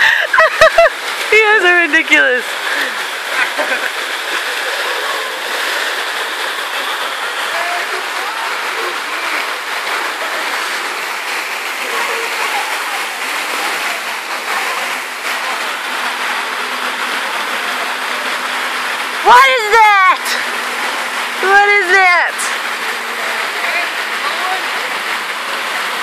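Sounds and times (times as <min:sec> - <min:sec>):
water splashing into a pool: 0:00.0 - 0:26.0.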